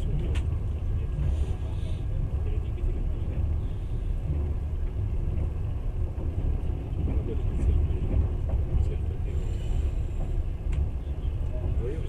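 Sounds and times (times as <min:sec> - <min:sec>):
train rumbling at speed: 0:00.0 - 0:12.0.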